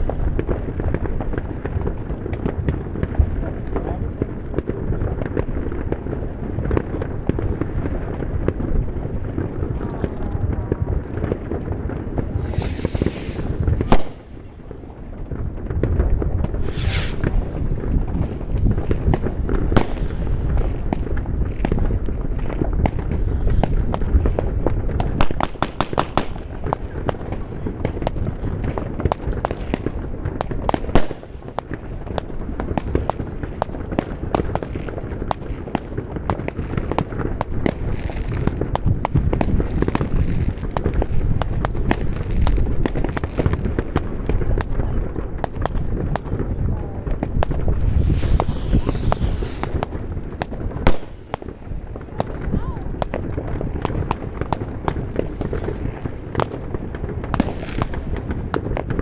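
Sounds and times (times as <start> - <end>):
fireworks crackling and booming: 0.0 - 59.0
rapid string of firecracker cracks: 9.4 - 46.5, 47.1 - 59.0.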